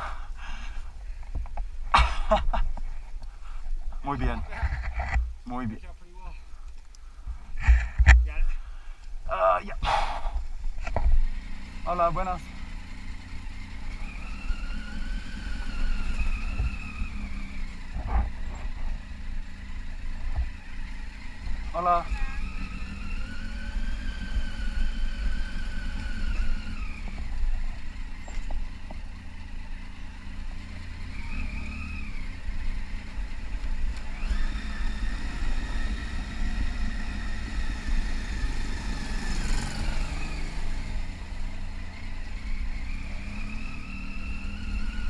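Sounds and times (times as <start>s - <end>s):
motorcycle engine running: 7.3s - 45.0s.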